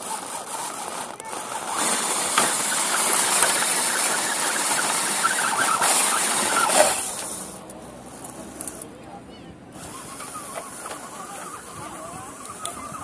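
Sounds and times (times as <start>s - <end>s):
electric motor and gears whirring: 0.0s - 9.0s, 9.7s - 13.0s.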